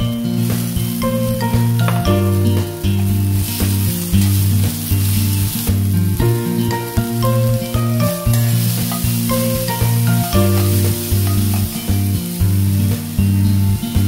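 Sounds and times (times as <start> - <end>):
instrumental background music: 0.0 - 14.0
vegetables sizzling in hot oil: 0.0 - 14.0
steel spoon stirring in skillet: 0.3 - 13.6.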